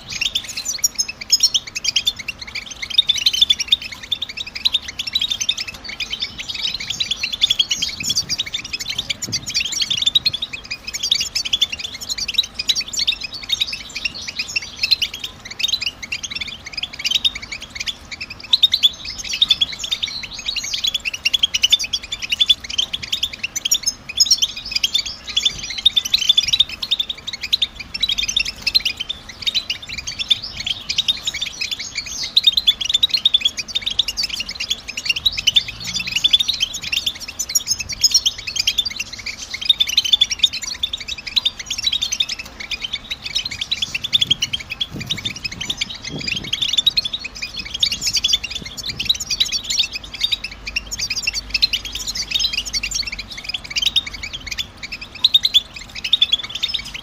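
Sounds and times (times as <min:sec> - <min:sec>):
goldfinch twittering: 0:00.0 - 0:57.0.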